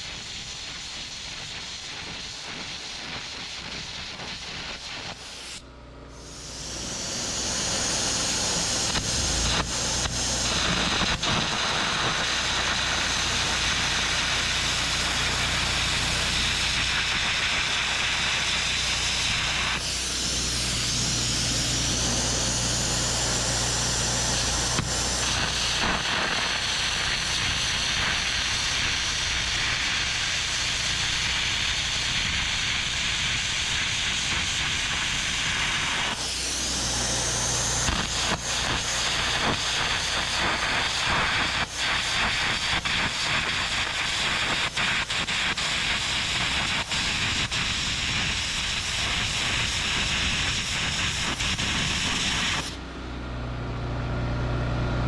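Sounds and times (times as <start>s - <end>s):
arc gouging hiss and crackle: 0.0s - 52.8s.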